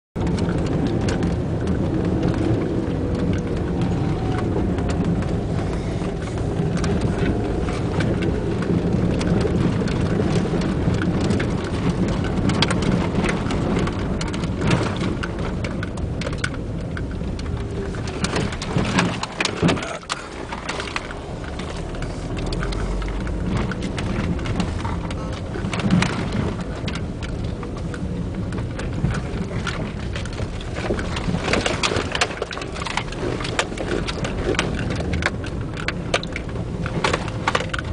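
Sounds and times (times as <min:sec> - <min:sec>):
car engine and tyres rumbling: 0:00.2 - 0:37.9
gravel striking car body: 0:00.2 - 0:37.9.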